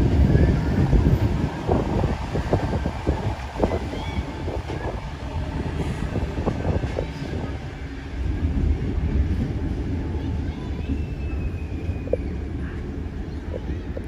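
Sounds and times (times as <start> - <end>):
train rumbling over tracks: 0.0 - 14.0.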